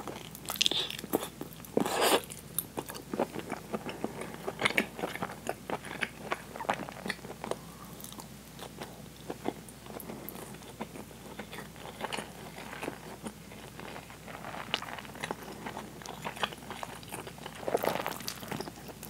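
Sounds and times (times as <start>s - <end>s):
chewing rice with mouth clicks: 0.0s - 19.0s.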